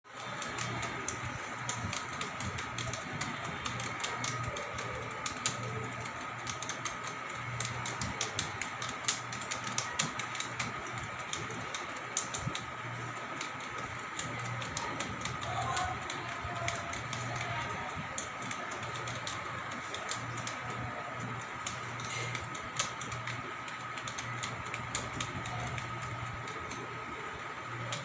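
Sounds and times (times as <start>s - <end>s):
keyboard typing clicks: 0.1s - 28.0s
steady background hum: 0.1s - 28.0s.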